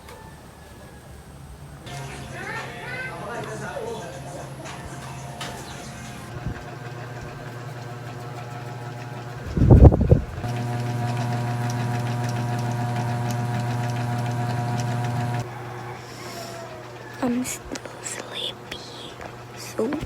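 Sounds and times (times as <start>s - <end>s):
small motor humming: 1.9s - 20.0s.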